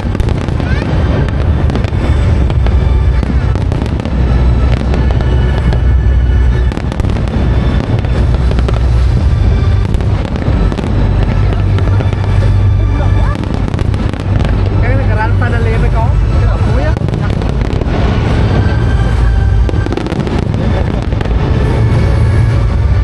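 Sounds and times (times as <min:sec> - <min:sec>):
fireworks bangs and crackles: 0:00.0 - 0:23.0
show music: 0:00.0 - 0:23.0.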